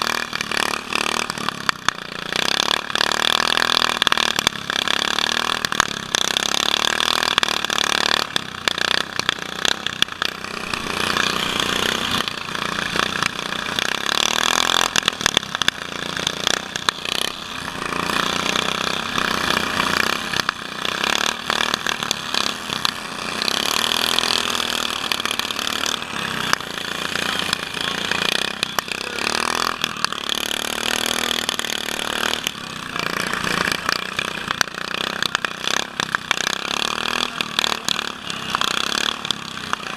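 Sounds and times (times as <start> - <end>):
lawn mower engines revving: 0.0 - 39.9.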